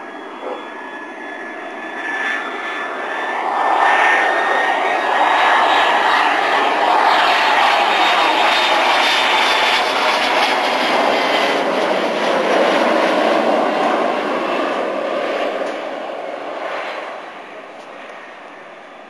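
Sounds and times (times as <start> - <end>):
jet engine noise with high whine: 0.0 - 19.0.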